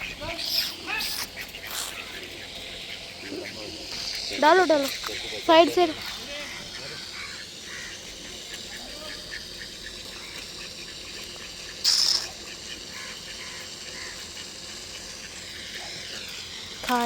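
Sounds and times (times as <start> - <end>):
loud hissy burst: 0.0 - 17.0
outdoor background: 0.0 - 17.0.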